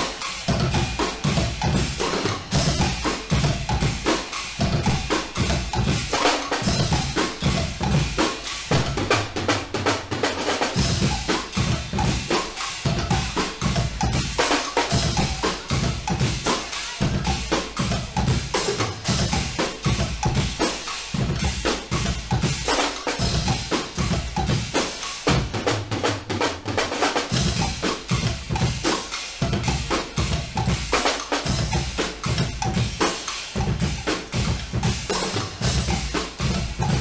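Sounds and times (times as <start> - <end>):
bass drums: 0.0 - 9.8, 10.8 - 37.0
percussion band playing: 0.0 - 37.0.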